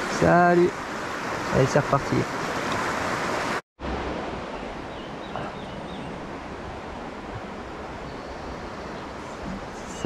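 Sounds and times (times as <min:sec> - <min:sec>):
river flowing over stones: 0:00.0 - 0:09.8.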